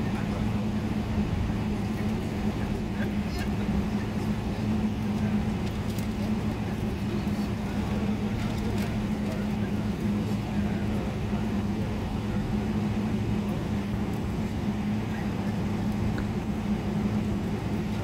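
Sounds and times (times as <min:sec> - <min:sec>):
aircraft cabin engine hum: 0:00.0 - 0:18.0.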